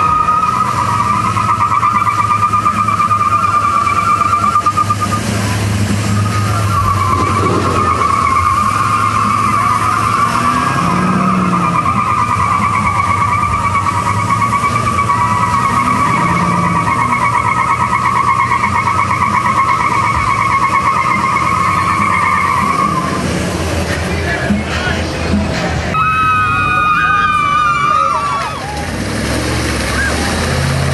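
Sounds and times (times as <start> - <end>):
engine rumble: 0.0 - 30.9
tyres squealing: 0.0 - 30.9.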